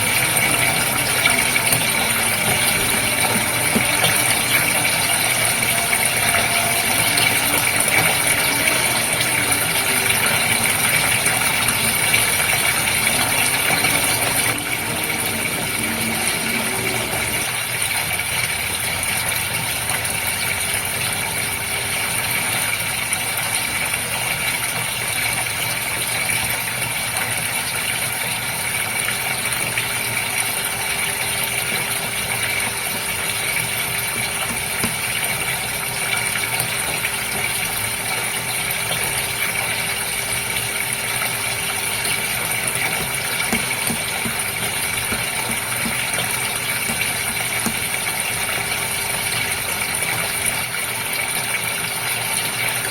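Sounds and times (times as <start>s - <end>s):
water flowing in fish tank: 0.0s - 52.9s
water pump humming: 0.0s - 52.9s.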